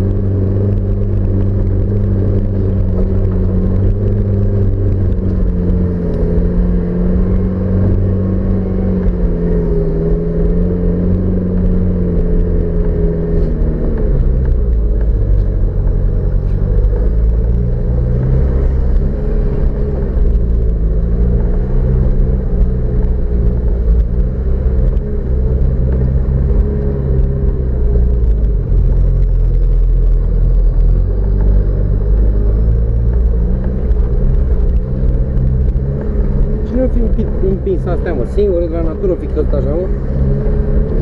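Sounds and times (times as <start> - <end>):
off-road vehicle engine rumbling: 0.0 - 41.0.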